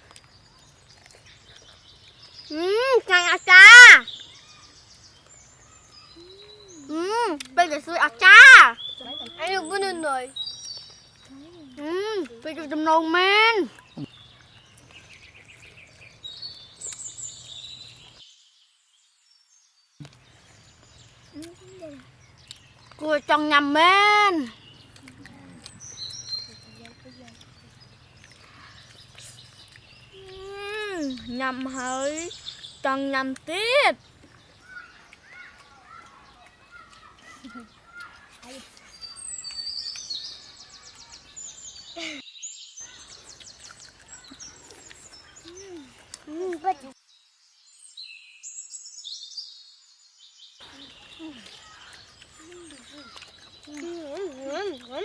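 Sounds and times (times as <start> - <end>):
birds chirping: 0.0 - 55.0
faint outdoor background hum: 0.0 - 55.0.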